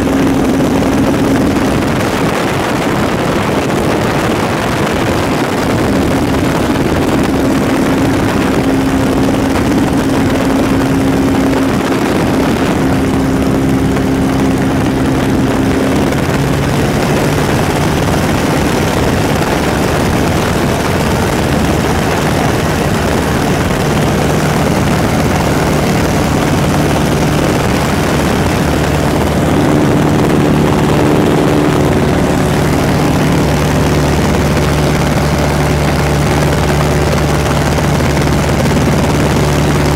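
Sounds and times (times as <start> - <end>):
airplane engine and propeller droning: 0.0 - 39.9
wind rushing: 0.0 - 39.9.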